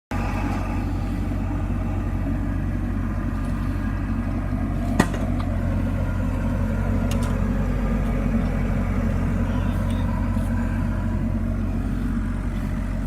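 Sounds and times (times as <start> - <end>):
paving machine engine rumble: 0.1 - 13.0.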